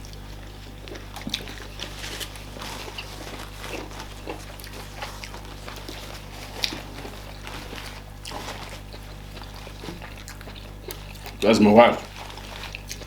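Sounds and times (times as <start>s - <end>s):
low steady hum: 0.0s - 13.0s
wet chewing and smacking: 0.0s - 13.0s.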